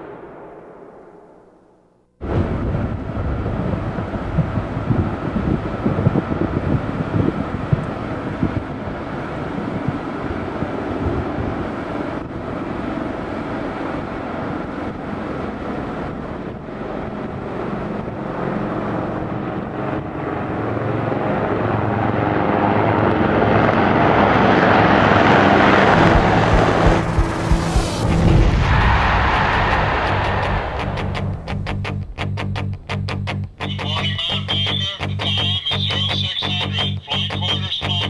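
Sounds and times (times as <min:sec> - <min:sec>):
military aircraft engine and rotor roar: 0:02.2 - 0:32.9, 0:33.5 - 0:38.0.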